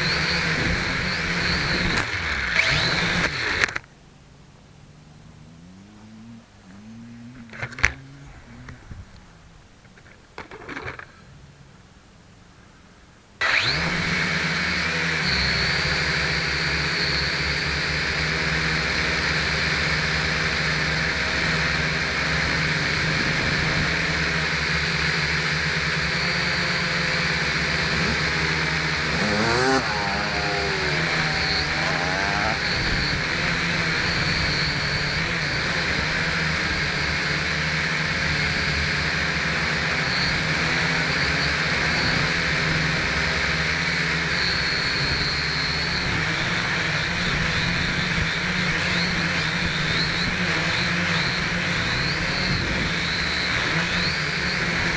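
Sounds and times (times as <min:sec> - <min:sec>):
toy drone propellers whirring: 0:00.0 - 0:03.8, 0:13.4 - 0:54.9.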